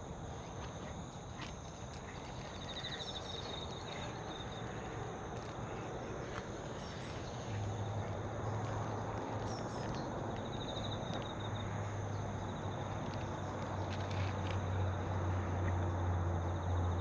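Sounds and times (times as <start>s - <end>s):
insects trilling: 0.0s - 17.0s
bird chirp: 0.3s - 14.3s.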